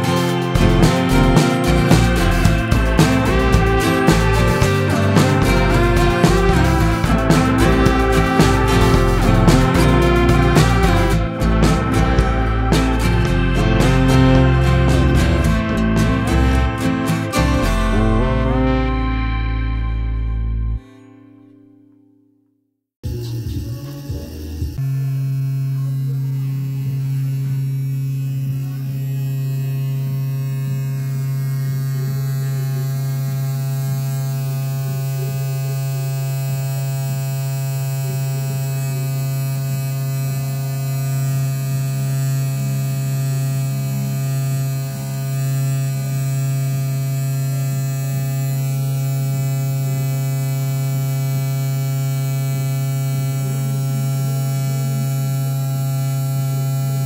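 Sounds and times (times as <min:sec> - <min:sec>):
motor spindle buzzing hum: 0:00.0 - 0:19.4, 0:23.1 - 0:57.0.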